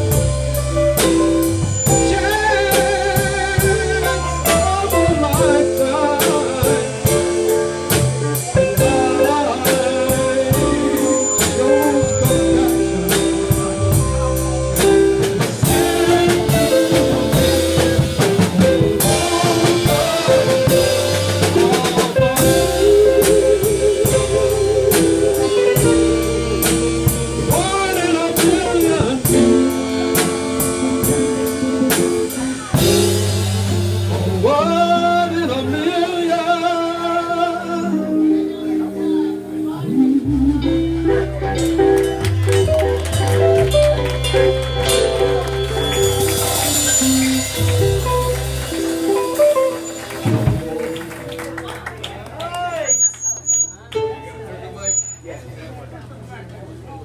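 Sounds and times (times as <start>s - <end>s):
drum kit beat: 0.0s - 35.4s, 40.2s - 51.9s
electric guitar: 0.0s - 52.1s
keyboard: 0.0s - 52.3s.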